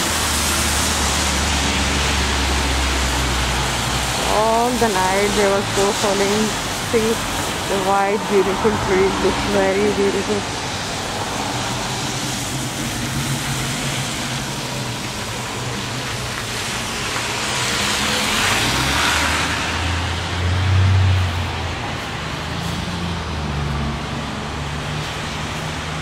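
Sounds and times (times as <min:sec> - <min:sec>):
road noise on wet road: 0:00.0 - 0:26.0.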